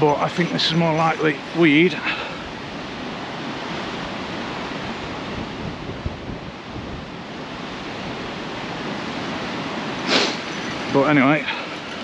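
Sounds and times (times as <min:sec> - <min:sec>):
sea surf washing on shingle: 0:00.0 - 0:05.7, 0:07.3 - 0:12.0
wind buffeting microphone: 0:00.0 - 0:12.0.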